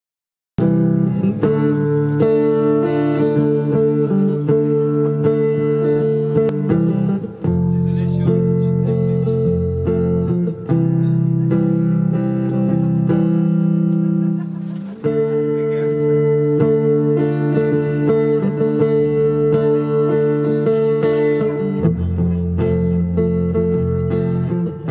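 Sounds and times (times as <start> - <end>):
live band playing guitars: 0.6 - 24.9.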